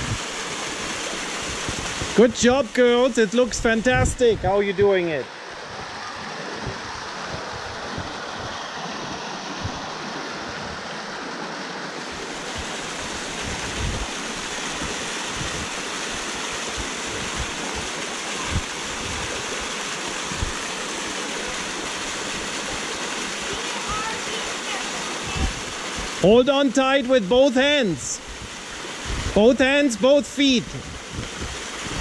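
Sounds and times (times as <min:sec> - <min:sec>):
waterfall splashing: 0:00.0 - 0:32.0.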